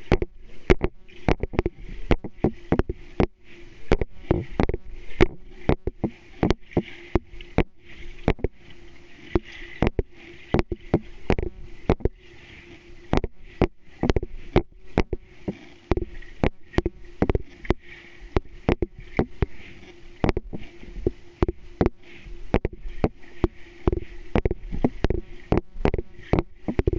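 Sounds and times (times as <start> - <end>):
underwater clicks and knocks: 0.0 - 12.2, 13.1 - 26.9
steady underwater hum: 0.0 - 26.9.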